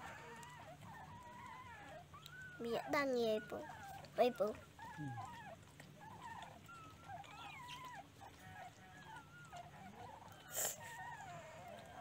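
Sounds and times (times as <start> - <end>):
puppies squeaking and whimpering: 0.0 - 12.0.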